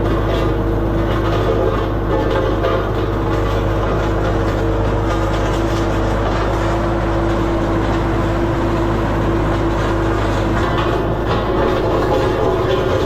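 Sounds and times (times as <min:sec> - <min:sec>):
road roller diesel engine droning: 0:00.0 - 0:13.0.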